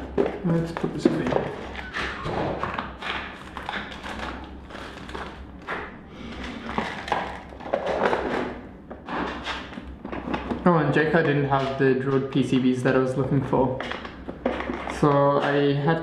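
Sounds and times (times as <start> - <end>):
rustling of small items: 0.0 - 16.0.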